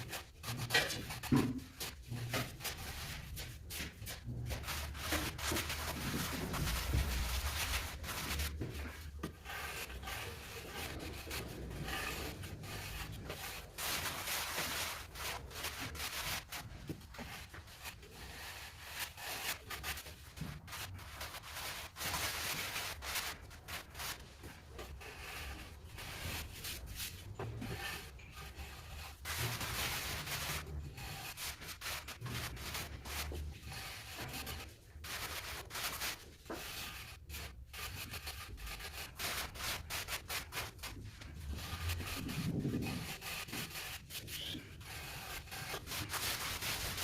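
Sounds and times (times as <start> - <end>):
trowel scraping mortar: 0.0 - 47.0.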